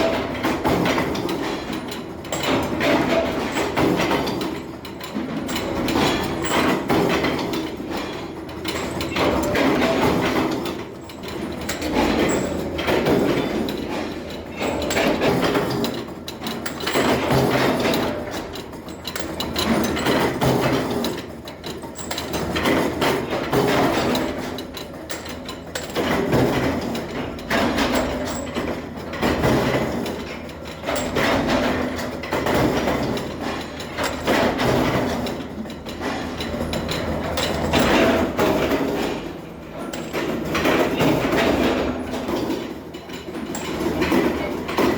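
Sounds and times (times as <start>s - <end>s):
metalworking machinery clanking: 0.0s - 44.9s.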